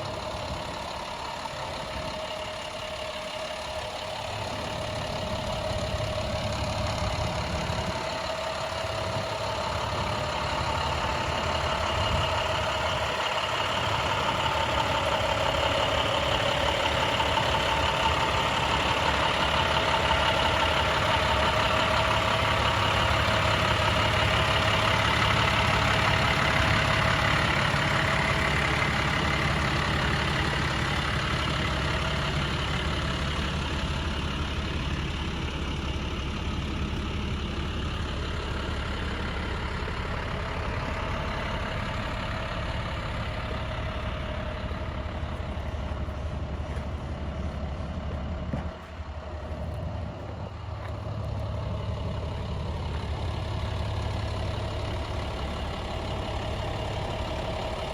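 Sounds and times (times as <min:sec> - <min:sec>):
diesel engine running with whine: 0:00.0 - 0:57.9.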